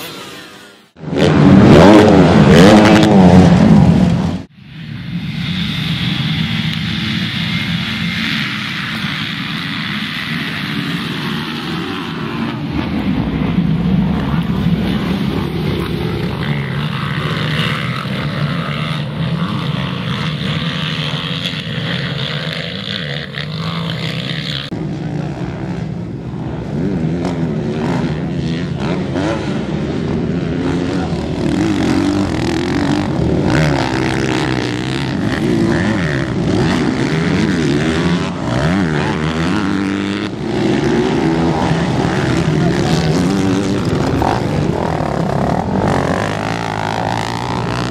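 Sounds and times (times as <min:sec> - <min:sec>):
motocross engines racing: 0:00.0 - 0:47.9.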